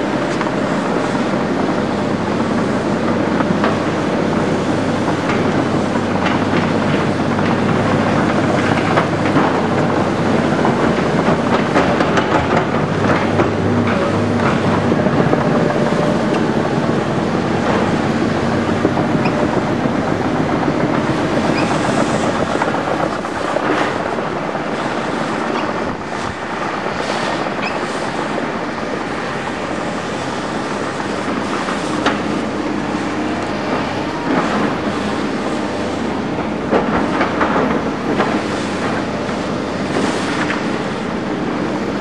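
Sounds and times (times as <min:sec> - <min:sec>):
diesel engines under load: 0:00.0 - 0:42.0
steel tracks clanking: 0:00.0 - 0:42.0.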